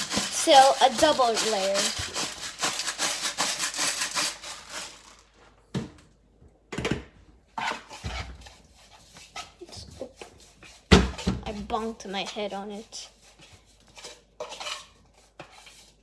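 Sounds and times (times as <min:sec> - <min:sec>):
scraping strokes: 0:00.0 - 0:05.2, 0:07.6 - 0:16.0.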